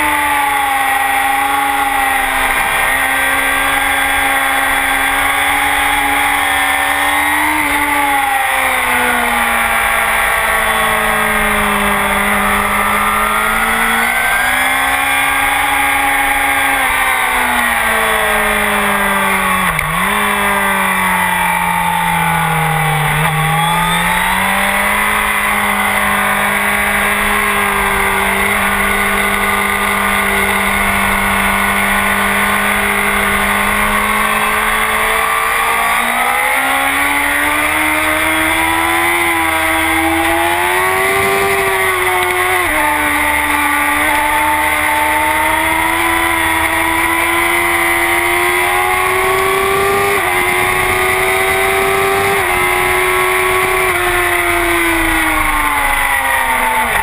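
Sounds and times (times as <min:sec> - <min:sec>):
motorcycle engine racing: 0:00.0 - 0:57.0.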